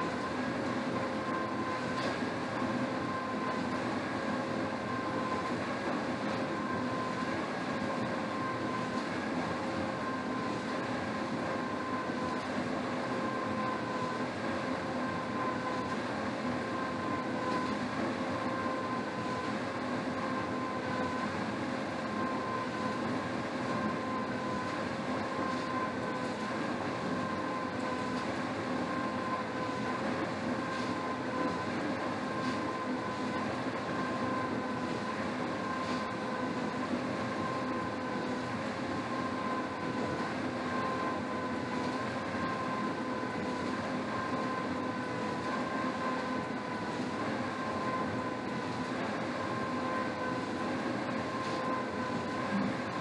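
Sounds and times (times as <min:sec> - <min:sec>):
rowing machine fan whirring: 0:00.0 - 0:53.0.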